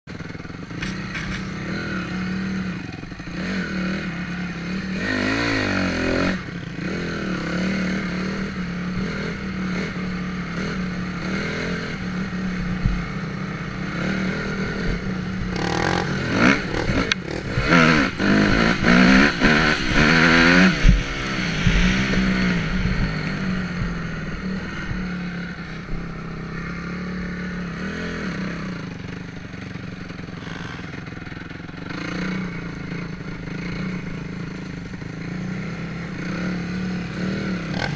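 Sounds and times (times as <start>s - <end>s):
dirt bike engine revving: 0.2s - 37.9s.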